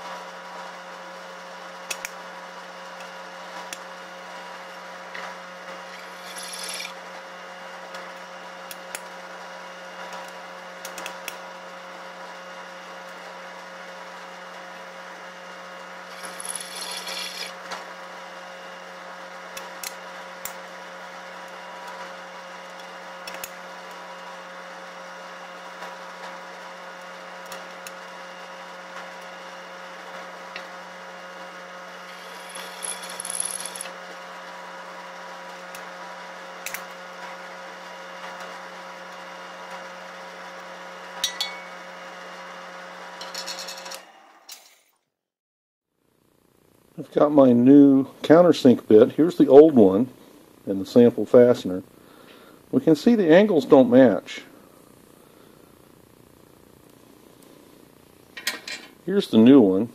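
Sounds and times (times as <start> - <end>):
steady mechanical hum: 0.0 - 45.0, 46.0 - 59.9.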